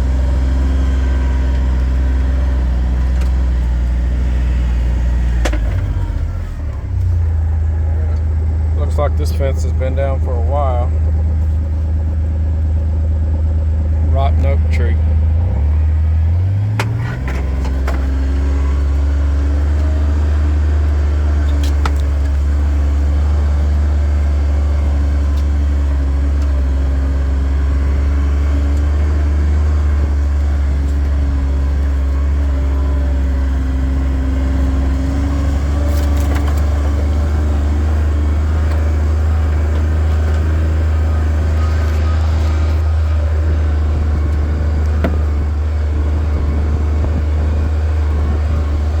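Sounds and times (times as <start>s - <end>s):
vehicle engine droning: 0.0s - 49.0s.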